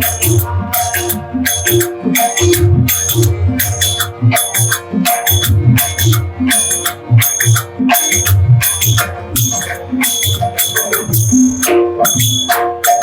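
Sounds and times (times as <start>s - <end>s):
drum strokes: 0.0s - 13.0s
hand cymbals clashing: 0.0s - 13.0s
held drone: 0.0s - 13.0s.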